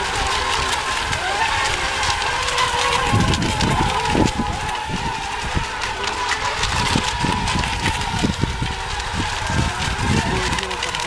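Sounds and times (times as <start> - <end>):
low buffeting on microphone: 0.0 - 11.0
racing boats high whine: 0.0 - 11.0.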